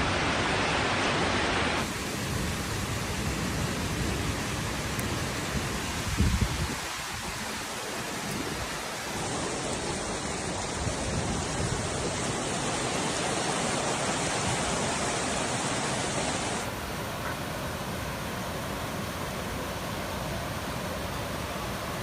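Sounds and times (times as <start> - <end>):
heavy rain and floodwater rushing: 0.0 - 22.0.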